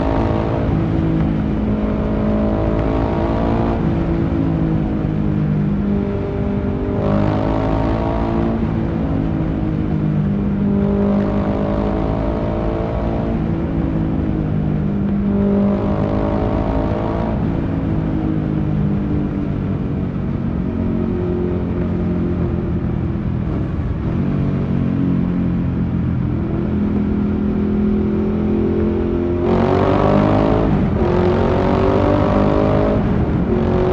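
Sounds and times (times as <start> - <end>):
motorcycle engine accelerating in tunnel: 0.0 - 33.9.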